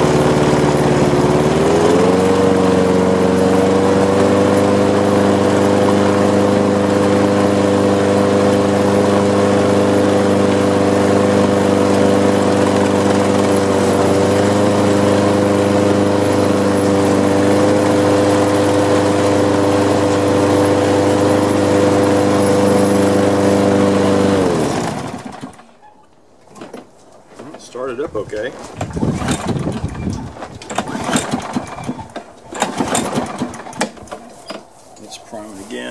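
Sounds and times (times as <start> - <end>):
lawn mower engine running: 0.0 - 35.9.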